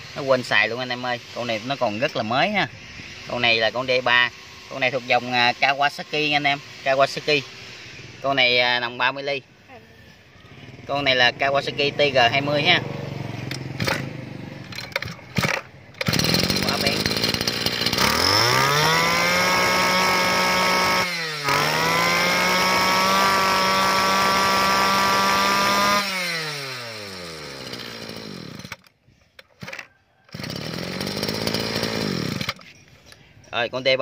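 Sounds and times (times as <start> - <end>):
brush cutter engine revving: 0.0 - 9.4, 10.0 - 32.8.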